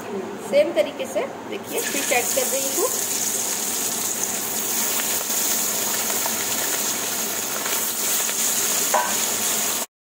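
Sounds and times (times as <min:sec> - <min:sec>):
fish sizzling in hot oil: 0:01.7 - 0:09.9.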